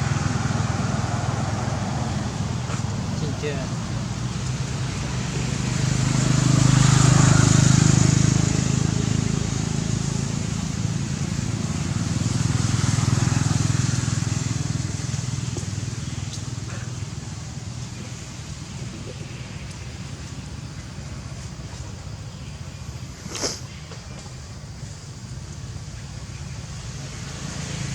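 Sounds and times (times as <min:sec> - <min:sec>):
vehicle engine passing by: 0:00.0 - 0:23.8, 0:25.2 - 0:27.9.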